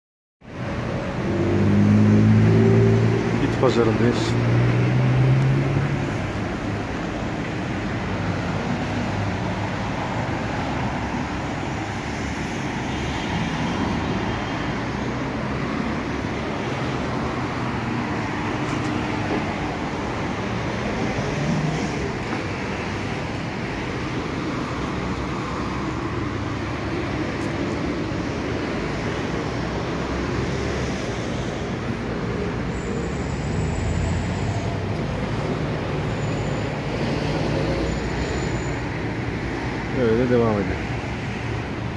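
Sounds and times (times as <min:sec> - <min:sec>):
road traffic passing: 0:00.4 - 0:41.9.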